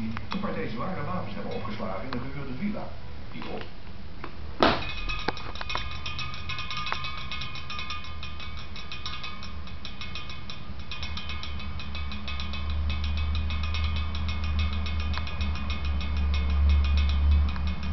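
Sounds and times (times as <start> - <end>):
rapid metallic ticking: 0.0 - 3.2, 4.7 - 17.9
low hum: 0.0 - 17.9.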